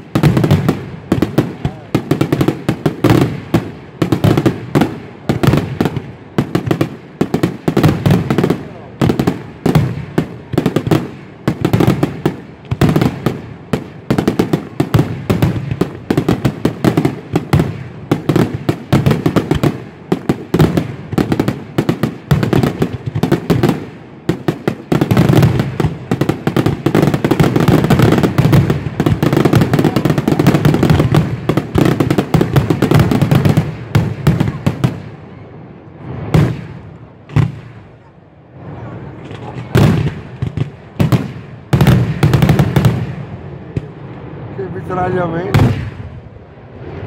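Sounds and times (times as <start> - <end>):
fireworks bursting: 0.0 - 47.0.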